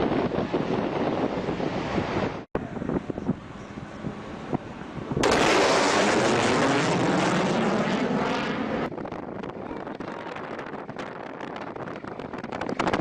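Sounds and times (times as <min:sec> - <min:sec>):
low-flying aircraft rush: 0:00.0 - 0:13.0
wind-like noise: 0:00.0 - 0:13.0.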